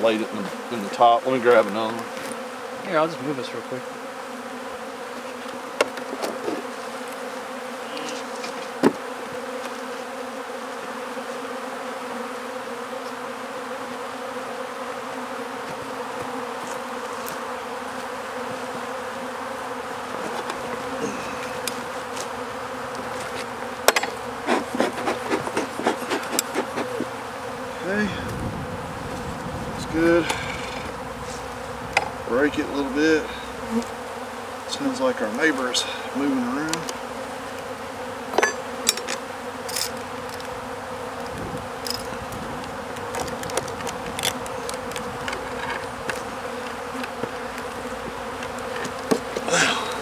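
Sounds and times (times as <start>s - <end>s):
bees droning: 0.0s - 50.0s.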